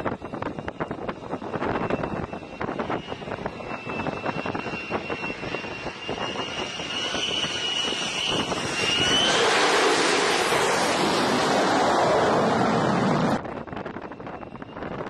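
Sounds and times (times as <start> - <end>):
jet engine whine: 0.0 - 15.0
wind buffeting microphone: 0.0 - 15.0.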